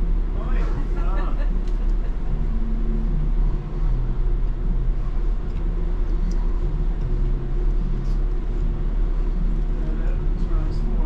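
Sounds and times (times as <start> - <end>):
electric drive hum: 0.0 - 11.0
tram rumbling: 0.0 - 11.0.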